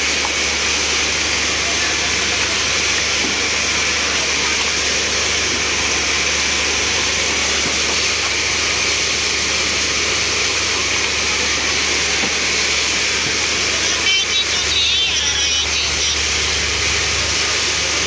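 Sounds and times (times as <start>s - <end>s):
fire truck engine and pump: 0.0s - 18.0s
spraying water hiss: 0.0s - 18.0s.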